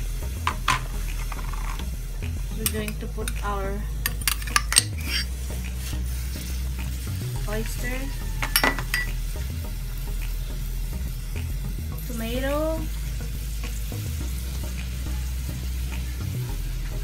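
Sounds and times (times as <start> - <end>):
low hum: 0.0 - 17.0
soup boiling and bubbling: 0.0 - 17.0.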